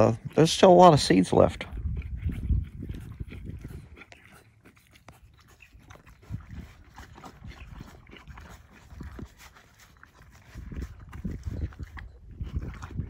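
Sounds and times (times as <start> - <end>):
horse crunching and chewing feed: 0.0 - 13.0.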